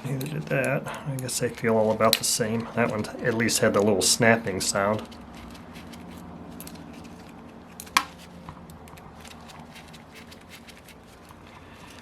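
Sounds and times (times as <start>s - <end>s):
hand tools clicking and tapping: 0.0s - 12.0s
steady low hum: 0.0s - 12.0s.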